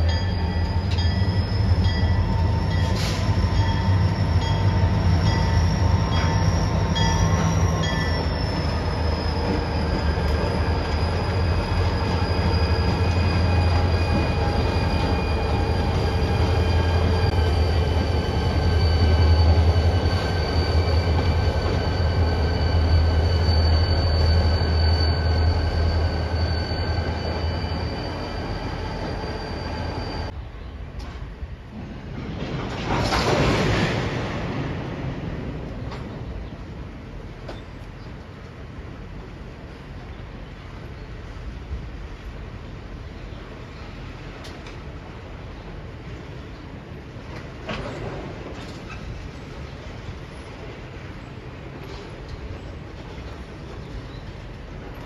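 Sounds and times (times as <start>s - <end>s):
train rumbling and whining: 0.0s - 55.0s.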